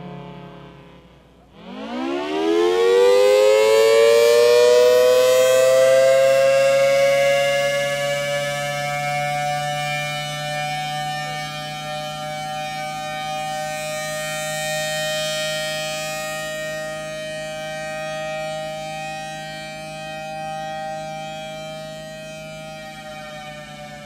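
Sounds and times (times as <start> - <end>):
civil defense siren two-tone chord: 0.0 - 24.0.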